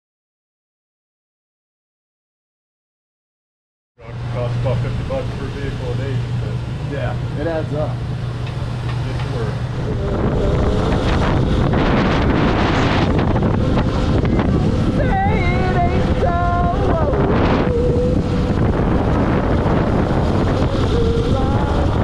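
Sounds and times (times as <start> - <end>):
wind rush on microphone: 4.1 - 22.0
motorcycle engine running: 4.2 - 22.0.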